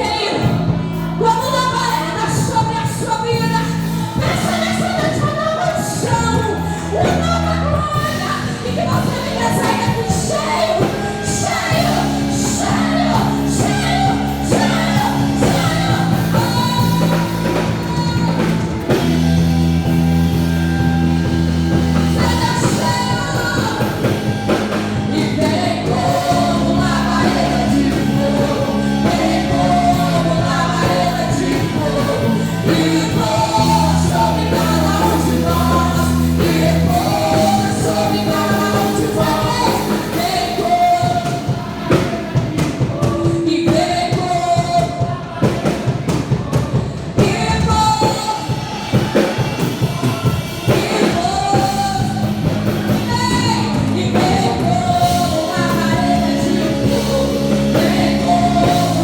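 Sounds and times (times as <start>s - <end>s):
praise band with singing: 0.0s - 59.0s.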